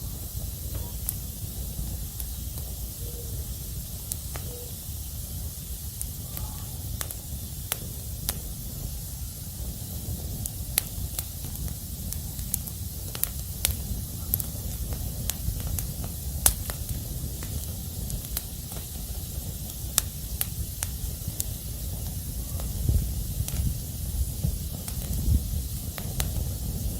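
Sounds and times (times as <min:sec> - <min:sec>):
fire crackling and popping: 0:00.0 - 0:26.9
fire rumbling and hissing: 0:00.0 - 0:26.9.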